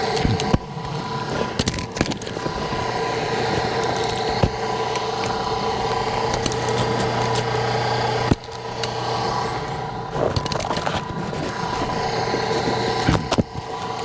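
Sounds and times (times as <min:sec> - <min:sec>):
log splitter motor droning: 0:00.0 - 0:14.0.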